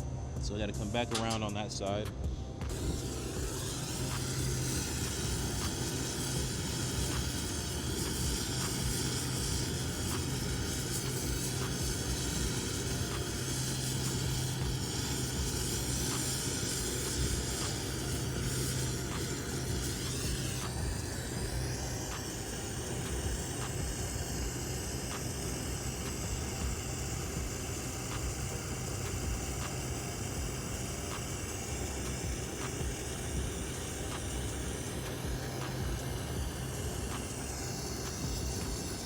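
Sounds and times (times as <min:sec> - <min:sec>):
low steady hum: 0:00.0 - 0:39.0
torch flame hissing: 0:00.0 - 0:39.0.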